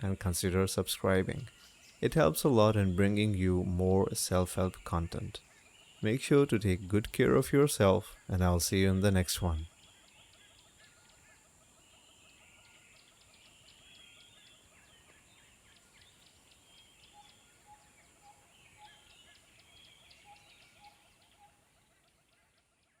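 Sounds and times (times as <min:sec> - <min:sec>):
birds chirping and calling: 0:00.0 - 0:22.7.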